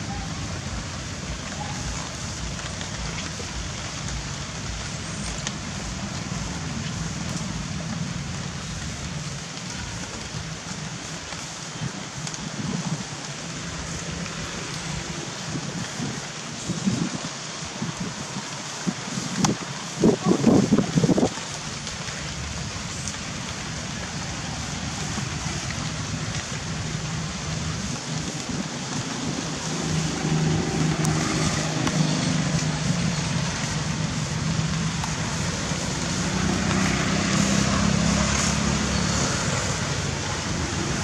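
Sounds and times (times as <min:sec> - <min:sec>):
road traffic noise: 0:00.0 - 0:41.0.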